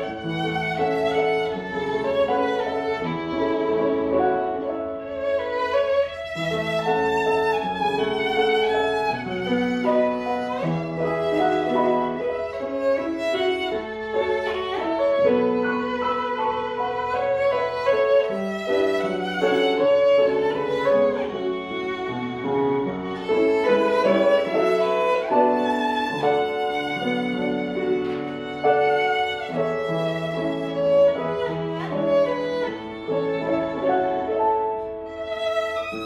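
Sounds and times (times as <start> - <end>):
piano accompaniment: 0.0 - 36.0
violin melody: 0.0 - 36.0.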